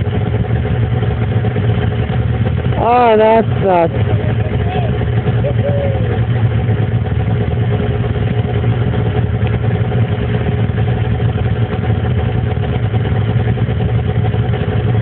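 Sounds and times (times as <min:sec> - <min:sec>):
snowmobile engine idling: 0:00.0 - 0:15.0.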